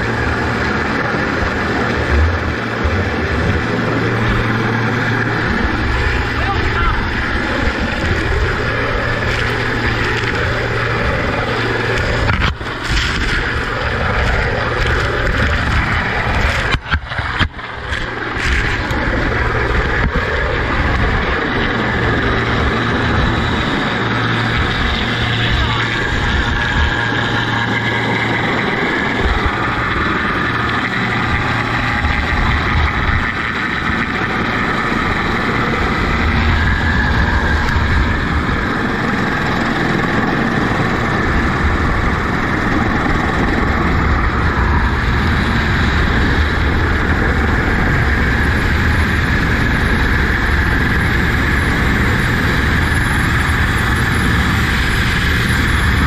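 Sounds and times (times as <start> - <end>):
helicopter rotor and engines: 0.0 - 56.0.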